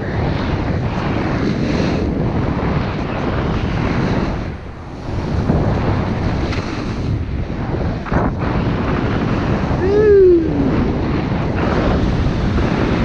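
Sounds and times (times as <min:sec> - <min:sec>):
snowboard sliding over snow: 0:00.0 - 0:13.0
wind buffeting microphone: 0:00.0 - 0:13.0.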